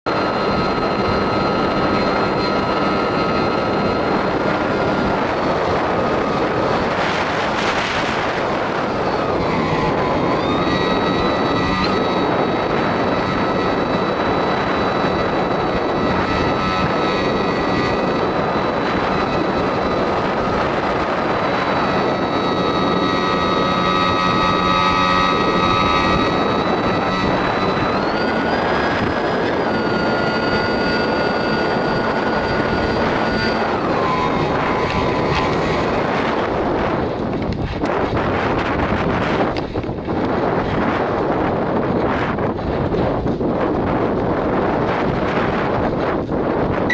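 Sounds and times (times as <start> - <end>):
propeller motor whine: 0.0 - 46.9
wind rush on microphone: 0.0 - 46.9.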